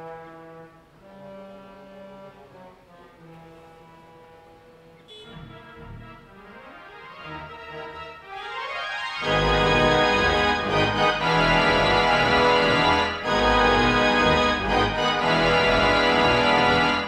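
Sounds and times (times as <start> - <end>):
pipe organ chords: 0.0 - 17.0.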